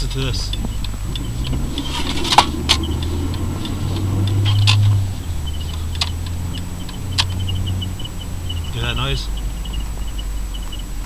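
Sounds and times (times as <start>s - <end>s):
car engine drone: 0.0s - 11.0s
sharp clicks from wheel: 0.1s - 9.1s.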